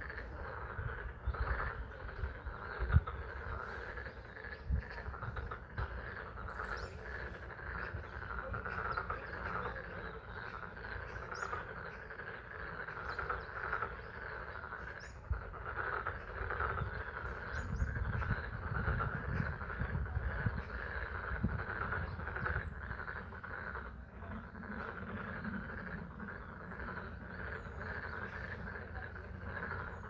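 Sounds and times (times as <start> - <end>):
frogs chorus calling: 0.0 - 30.0
low steady rumble: 0.0 - 30.0.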